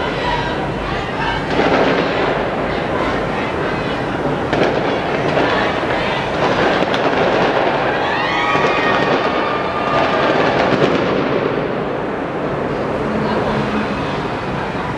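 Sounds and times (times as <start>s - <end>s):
fireworks crackling and rumbling: 0.0s - 14.9s.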